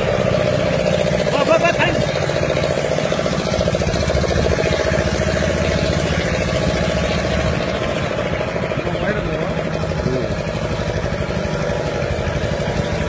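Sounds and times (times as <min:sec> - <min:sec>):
outboard boat motor running: 0:00.0 - 0:13.0.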